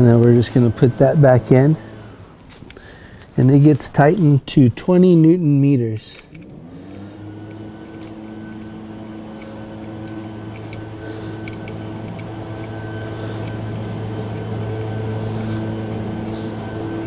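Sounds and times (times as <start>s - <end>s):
motor-driven machine humming: 0.0s - 17.0s.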